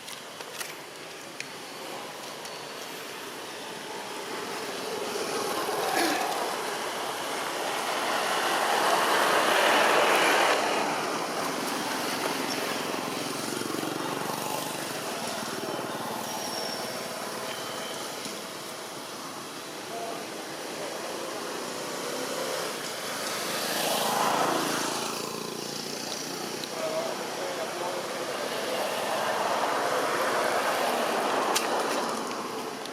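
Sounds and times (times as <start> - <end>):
road vehicle passing: 2.9 - 17.5, 20.4 - 32.9.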